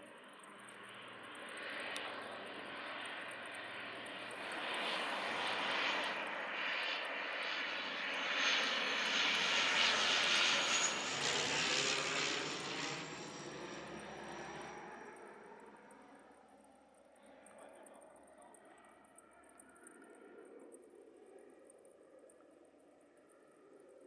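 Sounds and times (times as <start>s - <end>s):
turboprop aircraft flying past: 0.0s - 20.6s.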